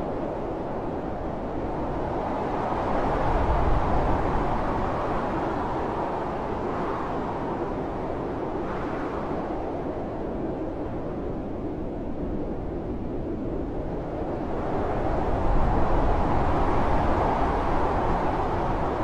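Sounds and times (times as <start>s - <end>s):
blizzard wind: 0.0s - 19.0s.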